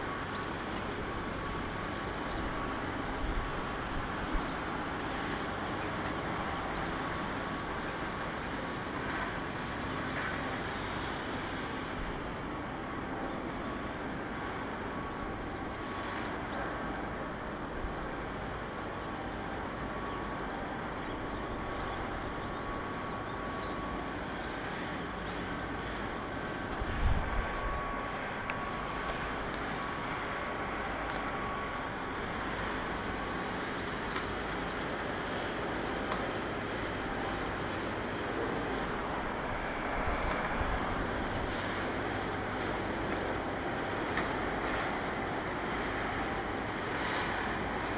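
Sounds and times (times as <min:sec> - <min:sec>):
faint steady whine: 0:00.0 - 0:47.9
mechanical background noise: 0:00.0 - 0:47.9.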